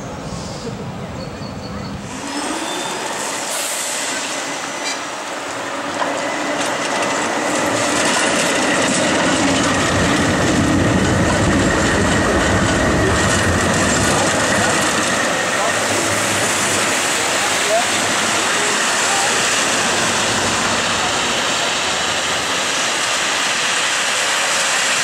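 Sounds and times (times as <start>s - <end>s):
tram wheels rumbling on rails: 0.0s - 25.0s.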